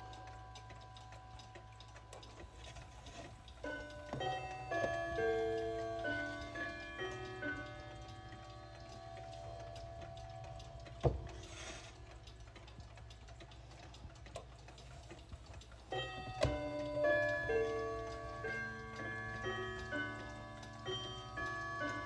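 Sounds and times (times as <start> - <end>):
wall clock chime: 0.0 - 13.4, 15.6 - 22.0
clock ticking: 0.0 - 22.0.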